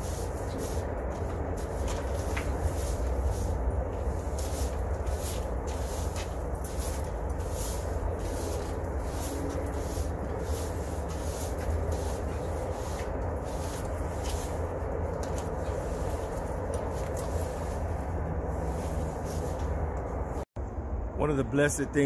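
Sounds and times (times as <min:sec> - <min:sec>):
broom sweeping concrete: 0:00.0 - 0:20.5
steady low rumble: 0:00.0 - 0:22.0.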